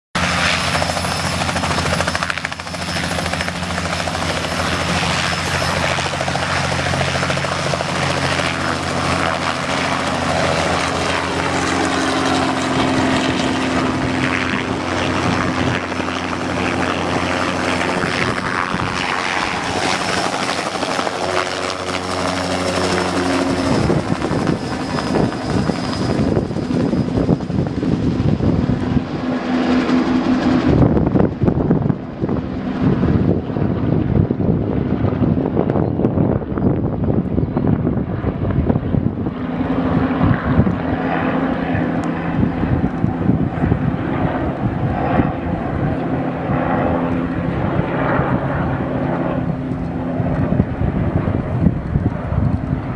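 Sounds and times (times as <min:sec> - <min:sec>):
helicopter rotor and engine: 0:00.2 - 0:52.9.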